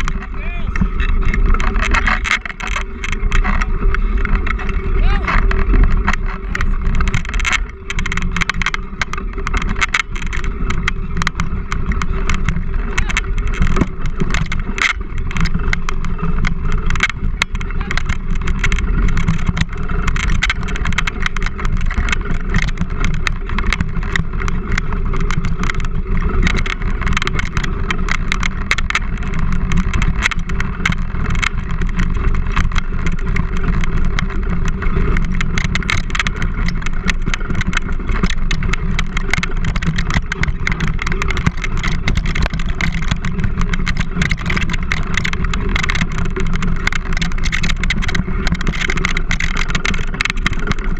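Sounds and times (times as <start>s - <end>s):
rattling clicks: 0.0s - 50.9s
wheels rumbling over dirt trail: 0.0s - 50.9s.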